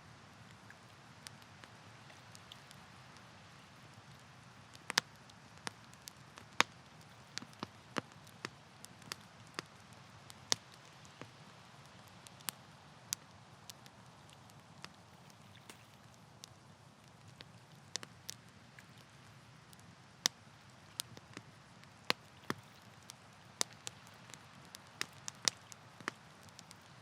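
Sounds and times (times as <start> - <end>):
campfire crackling: 0.0 - 27.0
sharp pops of fire: 4.0 - 27.0.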